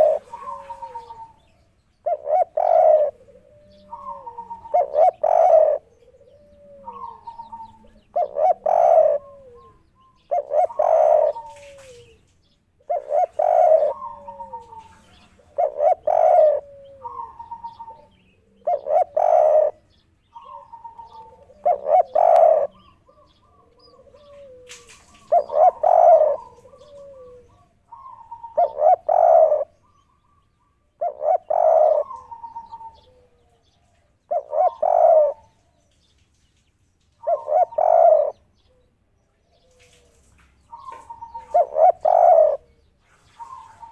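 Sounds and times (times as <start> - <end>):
dove cooing: 0.0 - 35.8, 37.2 - 43.9.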